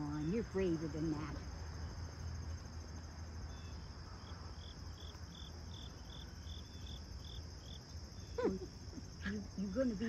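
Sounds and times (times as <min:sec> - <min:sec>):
insect chirping: 0:00.0 - 0:10.0
insects trilling: 0:00.0 - 0:10.0.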